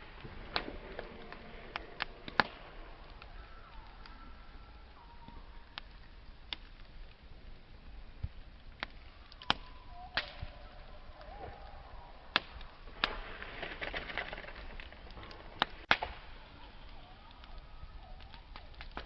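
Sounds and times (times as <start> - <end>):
burning wood snapping: 0.0 - 19.0
campfire crackling: 0.0 - 19.0.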